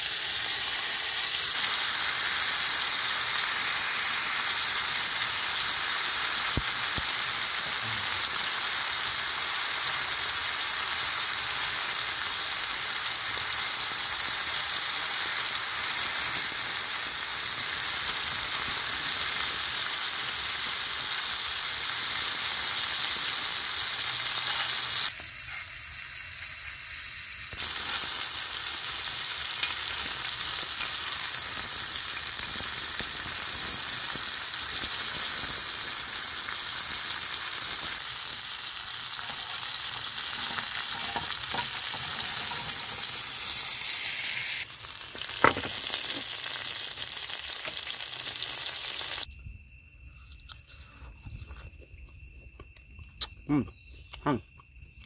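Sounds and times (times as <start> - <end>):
high sizzling hiss of frying: 0.0 - 49.3.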